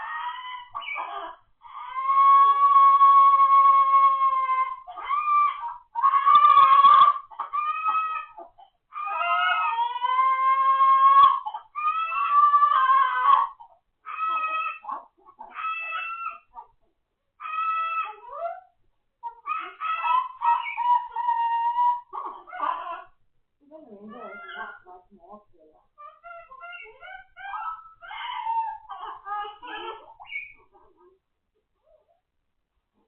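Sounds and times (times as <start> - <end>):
parrot calling: 0.0 - 16.7, 17.4 - 23.2, 26.0 - 30.9.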